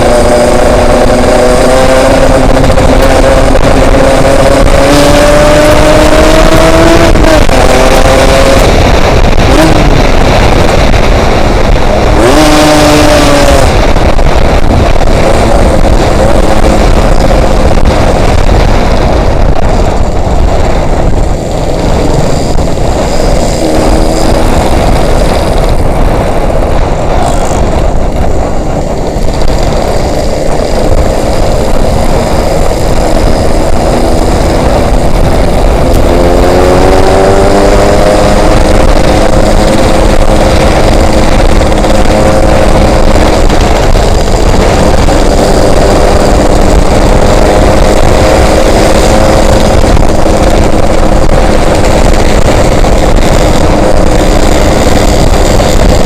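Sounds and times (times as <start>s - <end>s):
two-stroke motorcycle engine: 0.0s - 56.0s
wind noise on microphone: 0.0s - 56.0s.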